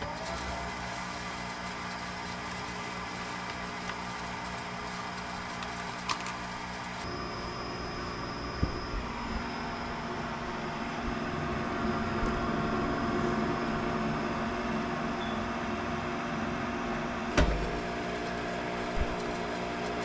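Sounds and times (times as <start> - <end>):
furnace motor humming: 0.0 - 20.0
high whine: 0.0 - 20.0.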